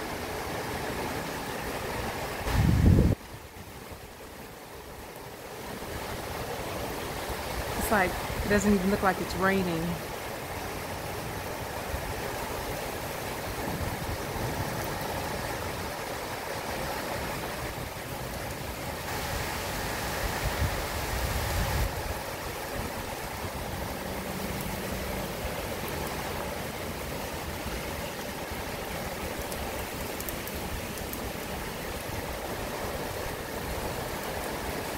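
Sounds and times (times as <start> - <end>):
rain falling on trees: 0.0 - 34.9.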